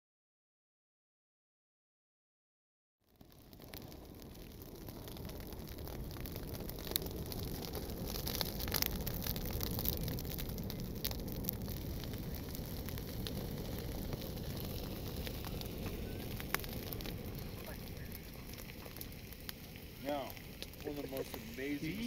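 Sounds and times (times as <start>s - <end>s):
campfire crackling and popping: 3.1s - 22.0s
steady fire hiss: 3.1s - 22.0s.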